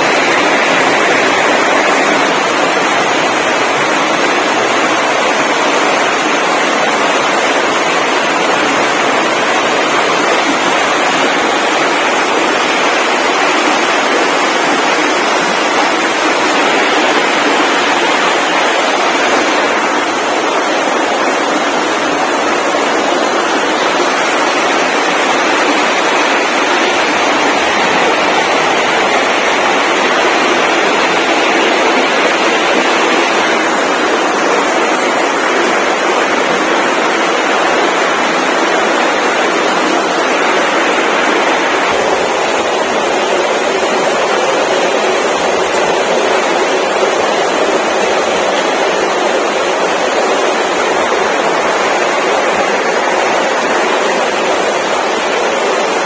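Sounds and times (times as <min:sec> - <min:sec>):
steady loud rushing noise: 0:00.0 - 0:56.0.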